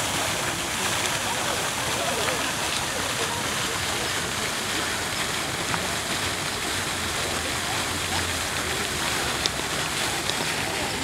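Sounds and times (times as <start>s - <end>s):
faint voices: 0.0s - 11.0s
running splashing water: 0.0s - 11.0s.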